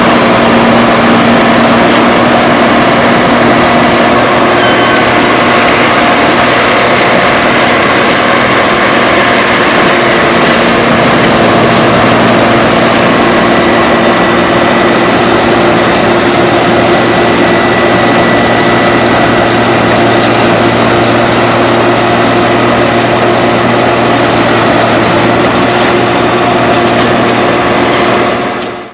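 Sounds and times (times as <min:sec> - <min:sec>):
machinery engine droning: 0:00.0 - 0:28.9.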